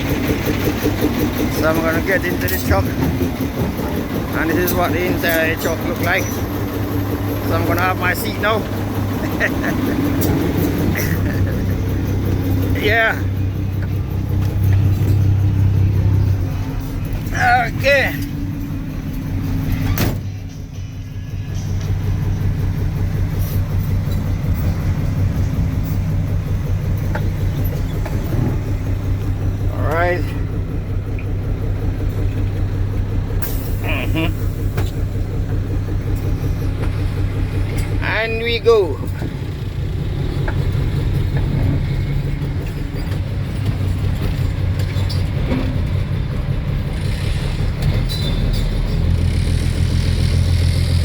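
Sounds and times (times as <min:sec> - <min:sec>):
truck engine idling: 0:00.0 - 0:51.0.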